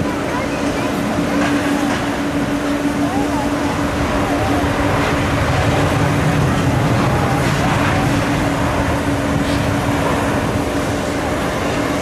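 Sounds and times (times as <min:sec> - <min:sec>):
jet engines roaring at takeoff: 0:00.0 - 0:12.0
low hum: 0:00.0 - 0:12.0.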